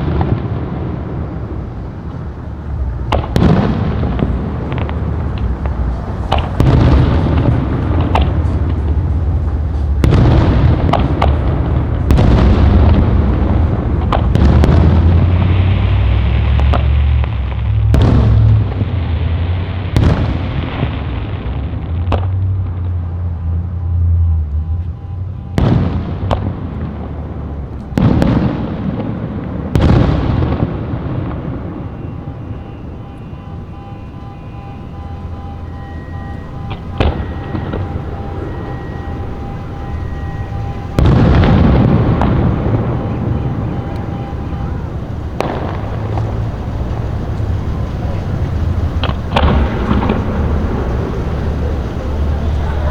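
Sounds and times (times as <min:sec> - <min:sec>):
fireworks bangs with rumbling echo: 0:00.0 - 0:52.9.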